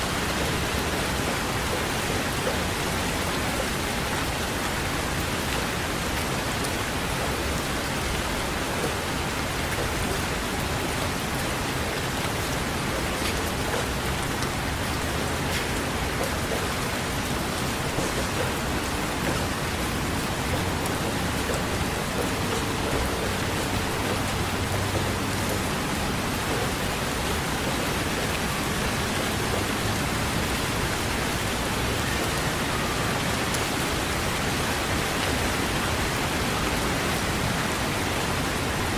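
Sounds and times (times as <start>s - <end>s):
raindrop taps: 0.0s - 31.4s
steady rain hiss: 0.0s - 38.9s.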